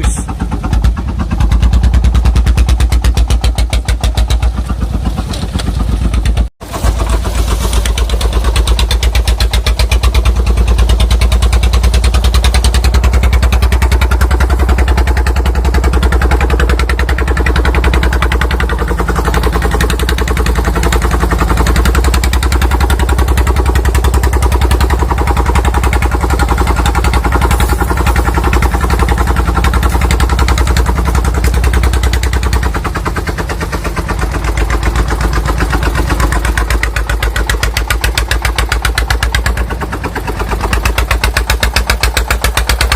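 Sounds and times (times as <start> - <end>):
diesel engine knocking under load: 0.0 - 42.9.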